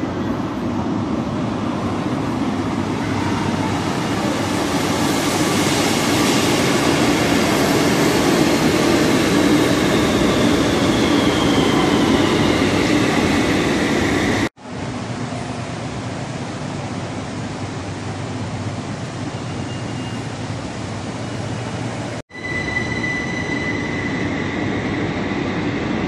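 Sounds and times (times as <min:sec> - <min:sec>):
faint train whine: 0:00.0 - 0:26.0
train rumbling in station: 0:00.0 - 0:26.0.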